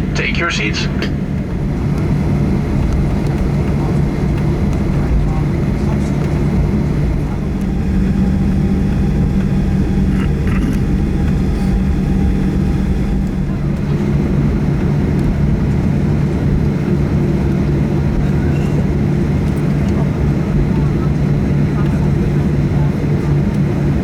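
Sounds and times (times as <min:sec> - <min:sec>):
jet engines humming in cabin: 0:00.0 - 0:24.0.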